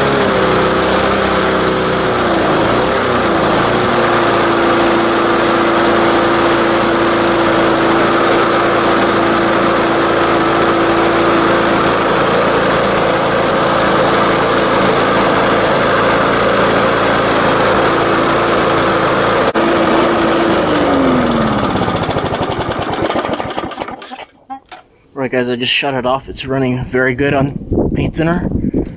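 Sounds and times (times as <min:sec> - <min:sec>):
engine winding down: 0:00.0 - 0:24.4
lawn mower engine running: 0:00.0 - 0:24.8.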